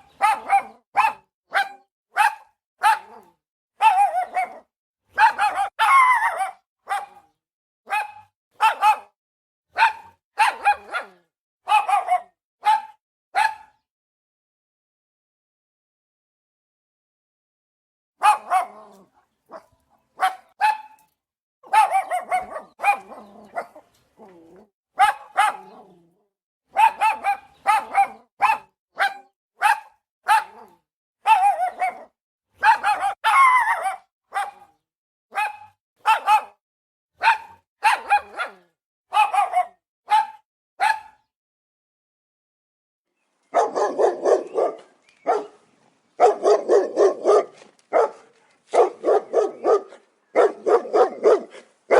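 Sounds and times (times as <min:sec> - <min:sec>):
dog barking: 0:00.0 - 0:13.8, 0:18.2 - 0:21.0, 0:21.6 - 0:23.9, 0:25.0 - 0:26.0, 0:26.7 - 0:36.6, 0:37.2 - 0:41.3, 0:43.5 - 0:45.6, 0:46.2 - 0:51.9.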